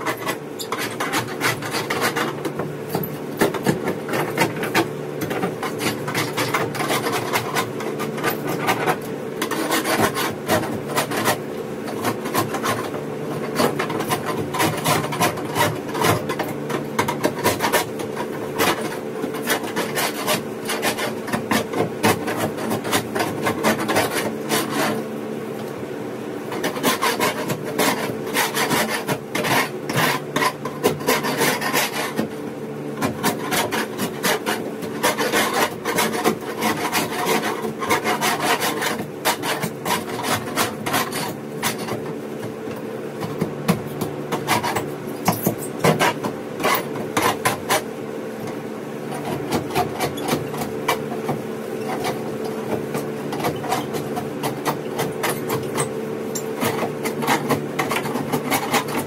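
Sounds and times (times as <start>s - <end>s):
scraper rasping on boat hull: 0.0s - 25.4s, 26.4s - 59.0s
steady low hum: 0.0s - 59.0s.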